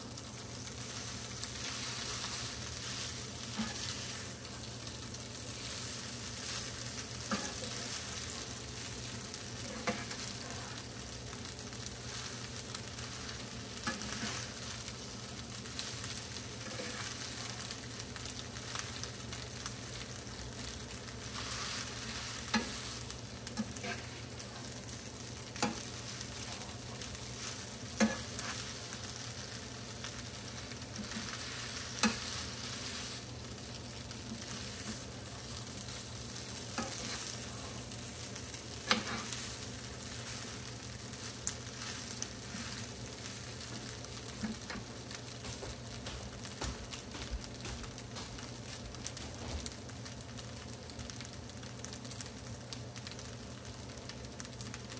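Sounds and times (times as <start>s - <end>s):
rice sizzling in a frying pan: 0.0s - 54.9s.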